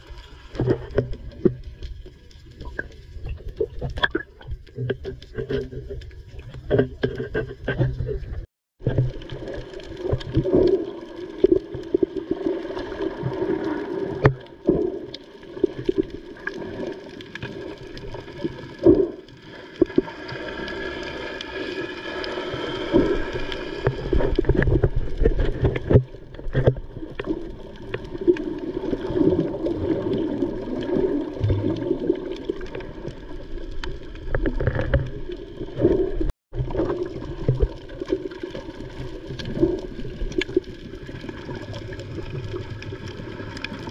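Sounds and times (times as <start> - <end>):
underwater water sloshing and bubbling: 0.0 - 43.9.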